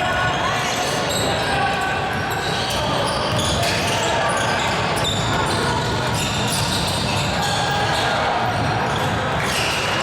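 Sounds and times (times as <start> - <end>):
din of busy hall: 0.0 - 10.0.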